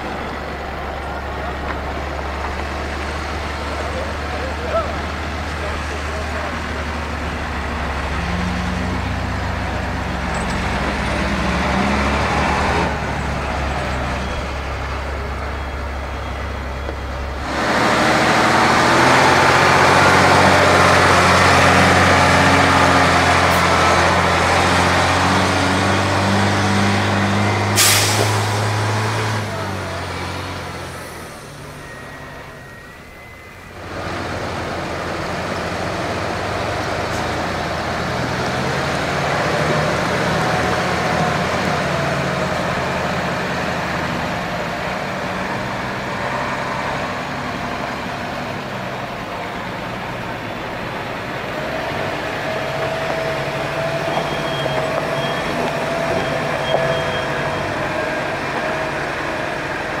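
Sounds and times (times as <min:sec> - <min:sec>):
diesel truck engines running: 0:00.0 - 1:00.0.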